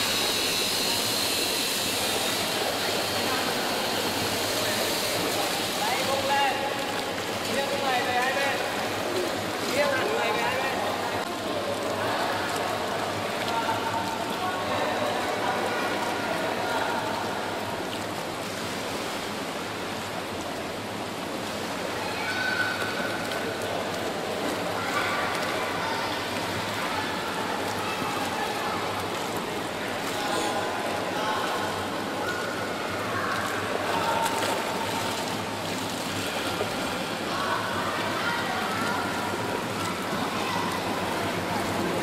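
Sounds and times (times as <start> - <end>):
pool water splashing: 0.0 - 42.0.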